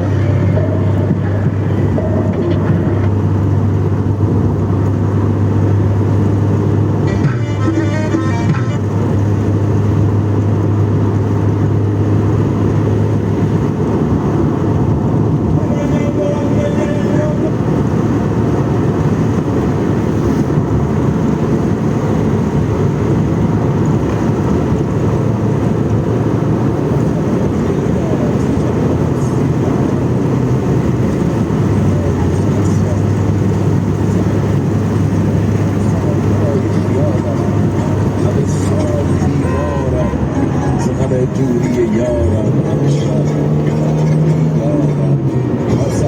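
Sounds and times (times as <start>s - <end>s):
vehicle engine and road noise: 0.0s - 46.0s.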